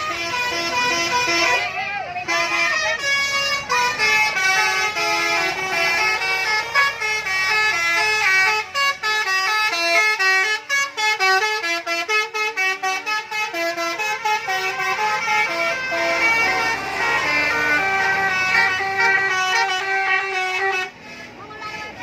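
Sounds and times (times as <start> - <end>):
bus musical horn playing a tune: 0.0 - 22.0.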